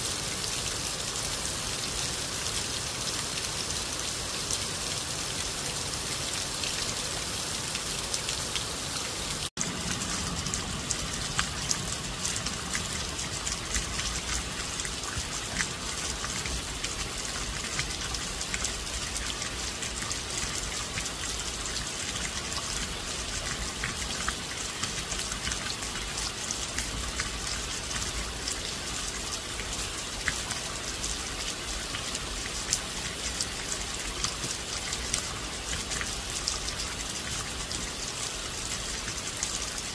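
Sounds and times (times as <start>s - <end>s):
raindrops ticking on surface: 0.0s - 39.9s
steady rain falling: 0.0s - 39.9s.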